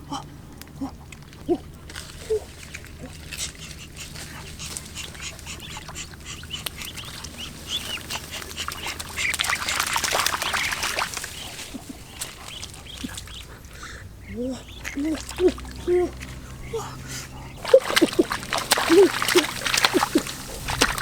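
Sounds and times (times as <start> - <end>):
ducks quacking and squawking: 0.8 - 21.0.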